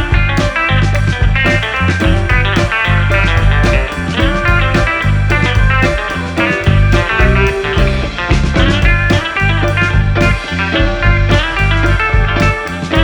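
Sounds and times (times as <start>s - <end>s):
guitar band music with drums: 0.0s - 13.0s.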